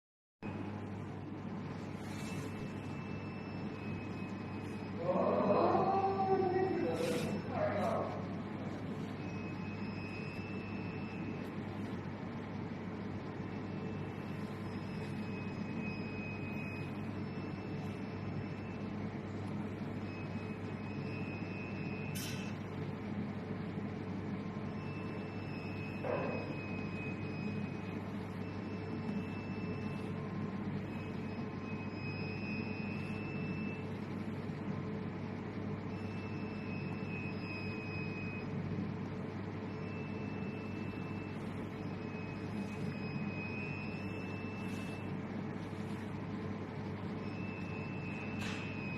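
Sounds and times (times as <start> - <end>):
high machine whine: 0.4 - 48.9
machine hum: 0.4 - 48.9.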